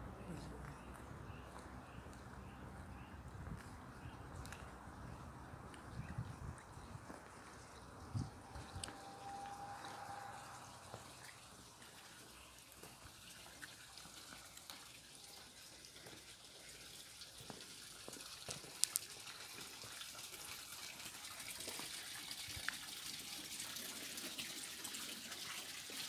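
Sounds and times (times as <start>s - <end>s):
fountain water splashing: 3.9s - 26.0s.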